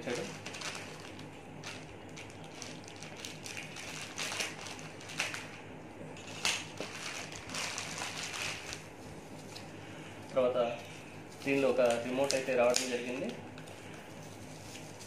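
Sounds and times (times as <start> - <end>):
plastic bag crinkling: 0.0 - 5.6, 6.2 - 9.7, 11.3 - 15.0.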